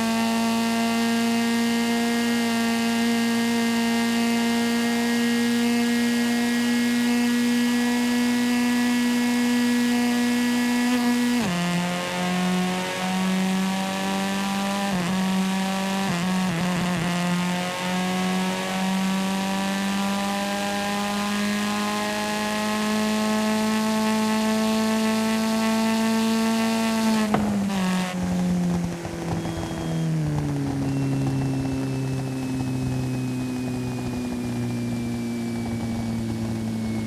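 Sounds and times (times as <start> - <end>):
video game car engine: 0.0 - 37.0.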